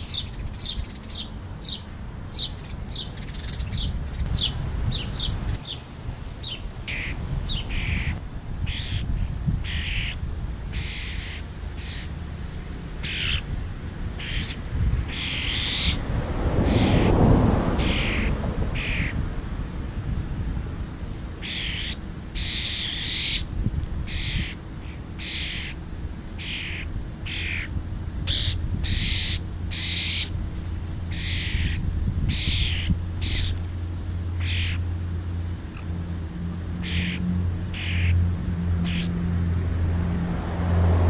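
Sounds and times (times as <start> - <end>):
birds harsh calls: 0.0 - 19.2, 21.4 - 36.0, 36.7 - 39.4
low steady hum: 0.0 - 41.0.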